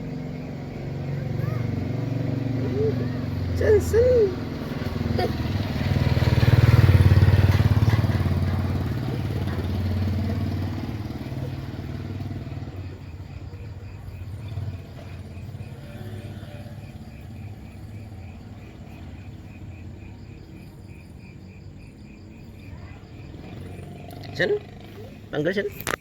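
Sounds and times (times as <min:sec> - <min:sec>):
crickets chirping: 0:00.0 - 0:26.0
vehicle engine running: 0:00.0 - 0:26.0.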